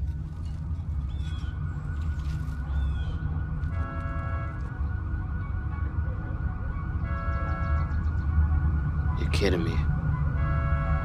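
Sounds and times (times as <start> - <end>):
deep spacecraft rumble: 0.0 - 11.0
warbling siren-like tone: 0.4 - 11.0.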